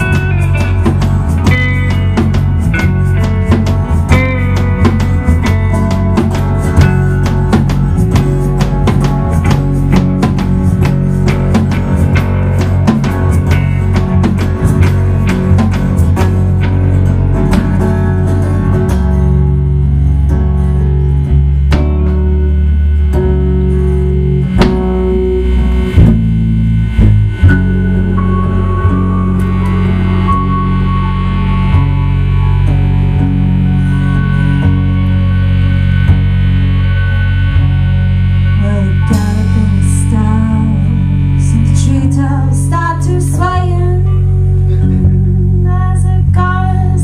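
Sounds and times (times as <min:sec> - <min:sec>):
bass guitar: 0:00.0 - 0:47.0
drum kit: 0:00.0 - 0:47.0
electric guitar: 0:00.0 - 0:47.0.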